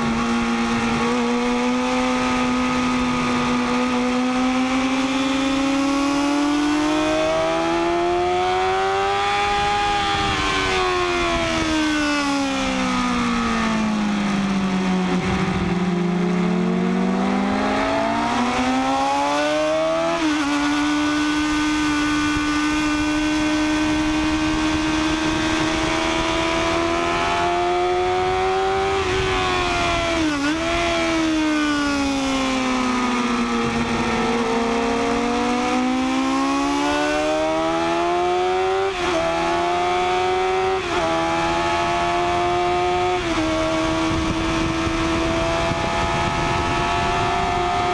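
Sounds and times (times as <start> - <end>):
motorcycle engine at speed: 0.0 - 47.9
rush of wind noise: 0.0 - 47.9.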